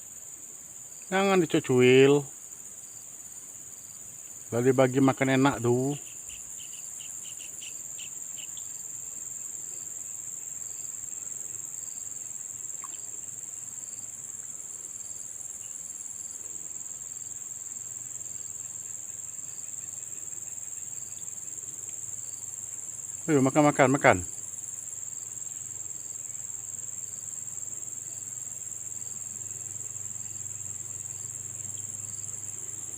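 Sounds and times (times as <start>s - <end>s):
insects trilling: 0.0s - 32.9s
soft pulsing insect call: 0.0s - 32.9s.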